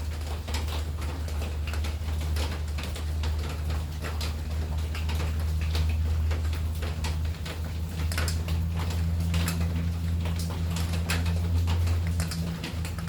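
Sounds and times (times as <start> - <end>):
rain tapping on hard surfaces: 0.0 - 13.0
steady low hum: 1.0 - 13.0.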